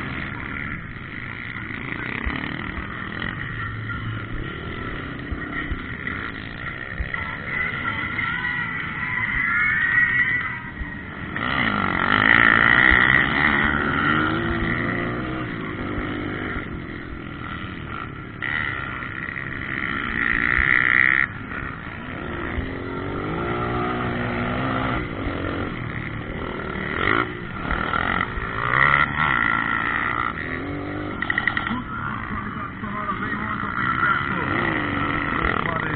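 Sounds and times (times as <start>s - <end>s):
motocross bike engines revving: 0.0s - 35.9s.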